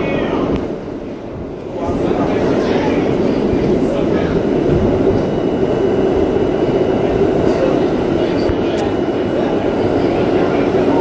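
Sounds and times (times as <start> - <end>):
subway wheels rumbling on track: 0.0 - 11.0.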